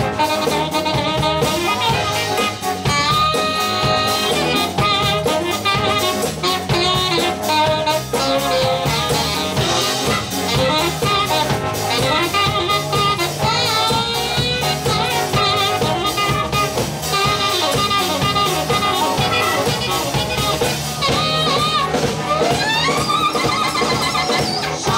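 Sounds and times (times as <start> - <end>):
live soul band playing: 0.0 - 24.9
saxophone long held notes: 0.0 - 24.9.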